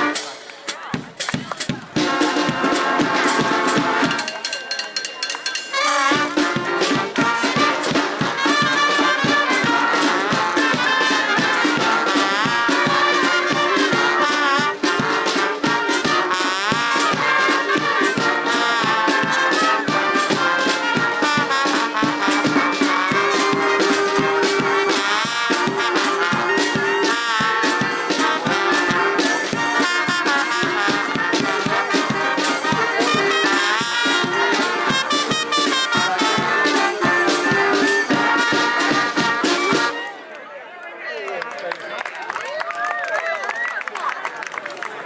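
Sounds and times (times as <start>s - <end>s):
brass band playing: 0.0s - 4.6s, 5.2s - 40.2s
bass drum steady beat: 0.8s - 40.0s.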